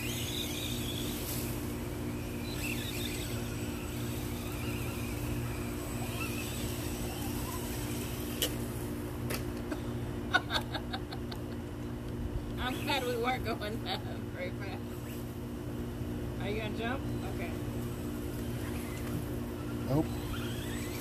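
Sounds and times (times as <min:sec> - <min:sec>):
rc car motor whine: 0:00.0 - 0:09.8, 0:12.4 - 0:15.6, 0:16.4 - 0:21.0
steady low hum: 0:00.0 - 0:21.0.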